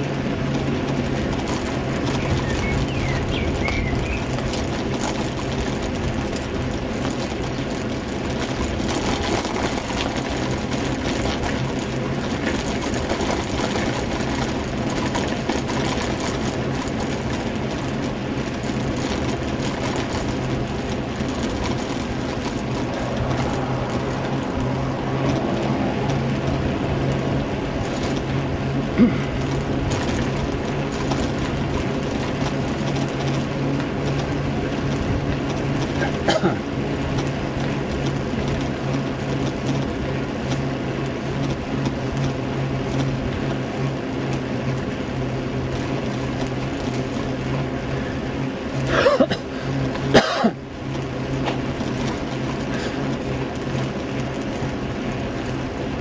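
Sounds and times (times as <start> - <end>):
bicycle rattling and clicking: 0.0 - 56.0
road noise: 0.0 - 56.0.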